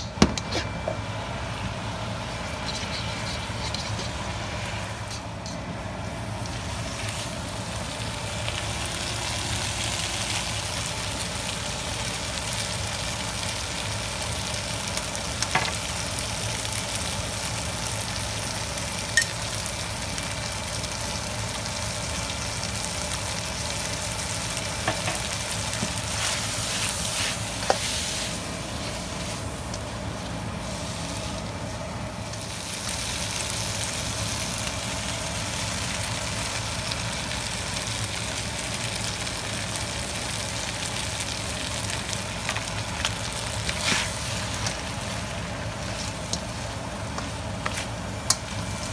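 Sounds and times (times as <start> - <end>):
food sizzling in a wok: 0.0 - 48.9
low steady hum: 0.0 - 48.9.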